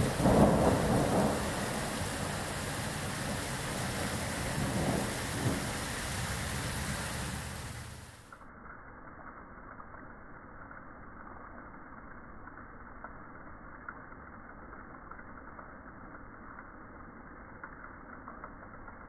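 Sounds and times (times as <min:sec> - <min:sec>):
steady rain: 0:00.0 - 0:08.5, 0:11.9 - 0:19.0.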